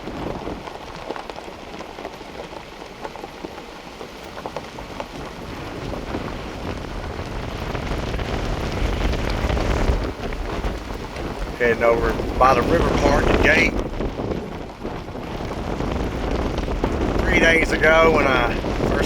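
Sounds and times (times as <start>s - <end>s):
crackle of small ticks: 0.0s - 19.0s
wind buffeting microphone: 0.0s - 19.0s.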